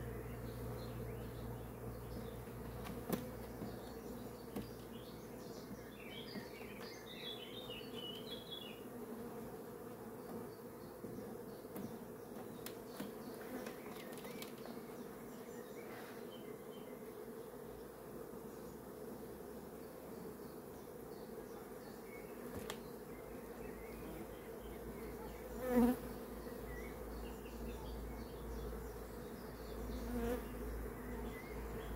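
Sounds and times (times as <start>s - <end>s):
honeybees buzzing: 0.0s - 31.9s.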